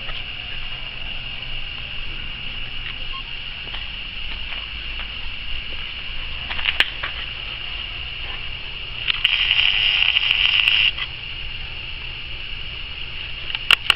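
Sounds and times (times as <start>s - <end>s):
high-pitched insect drone: 0.0s - 13.9s.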